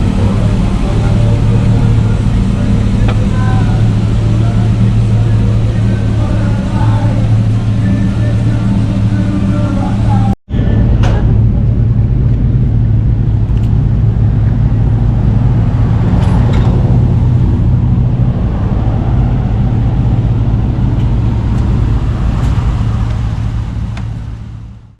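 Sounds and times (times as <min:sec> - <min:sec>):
truck engine running: 0:00.0 - 0:24.9.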